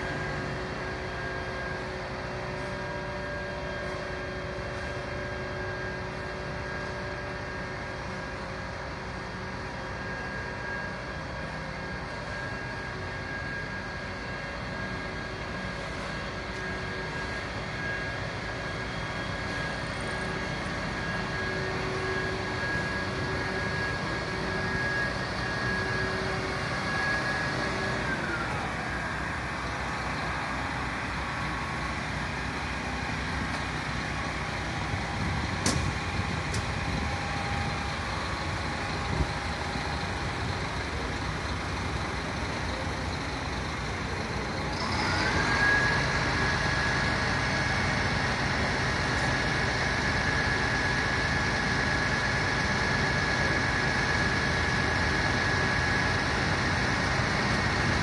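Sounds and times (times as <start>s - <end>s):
fire truck machinery whining: 0.0s - 58.0s.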